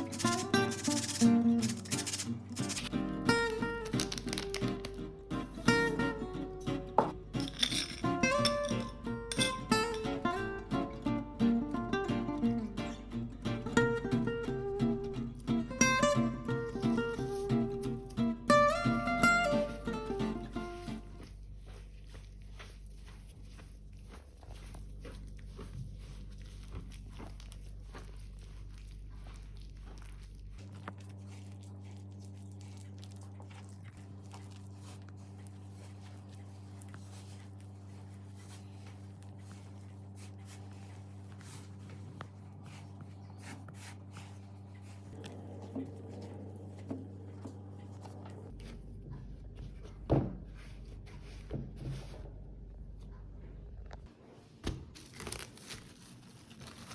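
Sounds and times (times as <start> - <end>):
low electrical hum: 0.0 - 56.9.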